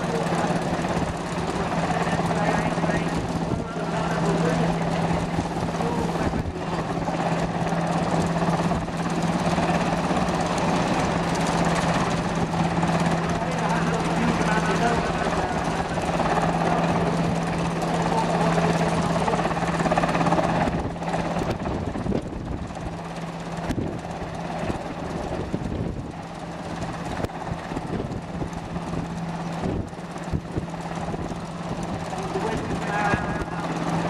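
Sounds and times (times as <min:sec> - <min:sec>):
helicopter hovering drone: 0:00.0 - 0:34.0.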